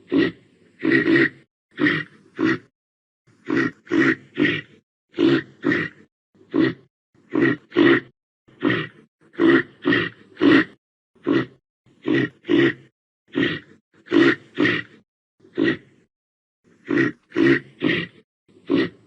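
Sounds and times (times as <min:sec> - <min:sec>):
reindeer grunting: 0:00.0 - 0:02.7, 0:03.3 - 0:16.1, 0:16.7 - 0:19.0.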